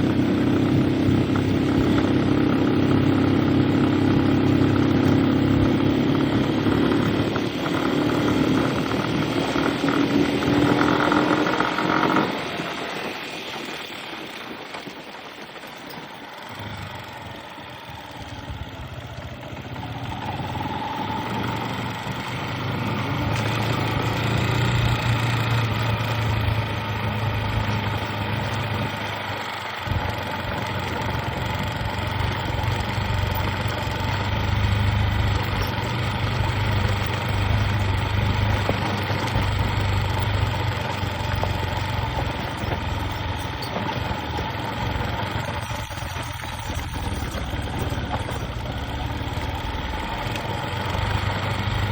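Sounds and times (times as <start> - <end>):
vehicle engine running: 0.0 - 51.9.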